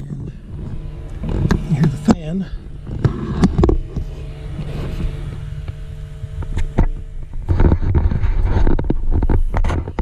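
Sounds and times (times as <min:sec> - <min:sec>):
low vehicle hum: 0:00.0 - 0:10.0
small cooling fan whirring: 0:00.0 - 0:10.0.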